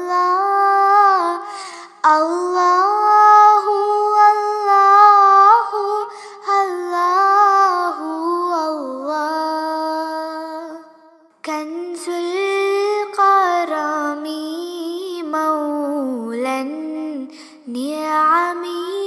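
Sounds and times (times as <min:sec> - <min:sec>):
high solo voice singing devotional song: 0:00.0 - 0:19.0.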